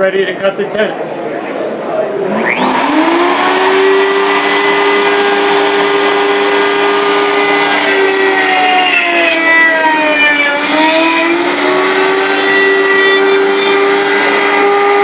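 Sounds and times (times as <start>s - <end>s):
router cutting wood: 2.3s - 15.0s.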